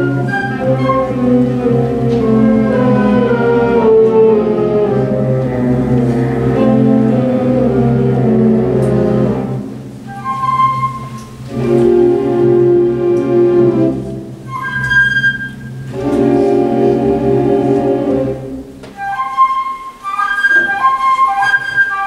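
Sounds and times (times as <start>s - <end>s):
high woodwind melody: 0.0s - 22.0s
wind band playing sustained chords: 0.0s - 22.0s.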